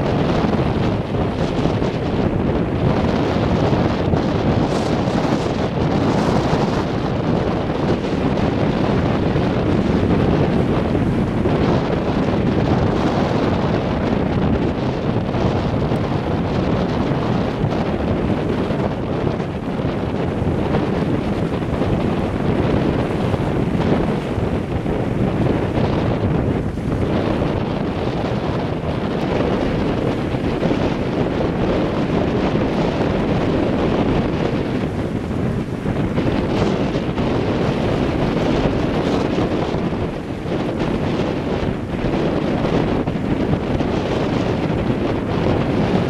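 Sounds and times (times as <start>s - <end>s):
strong wind blasting microphone: 0.0s - 46.0s
waves breaking on shore: 0.0s - 46.0s.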